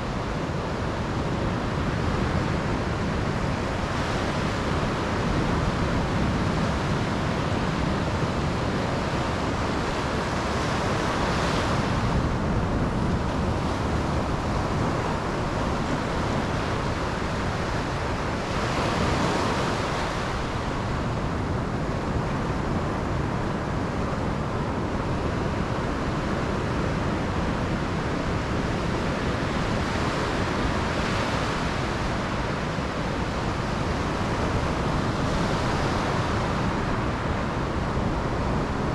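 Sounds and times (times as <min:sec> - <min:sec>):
sea waves breaking on beach: 0:00.0 - 0:38.9
wind rumble on microphone: 0:00.0 - 0:38.9.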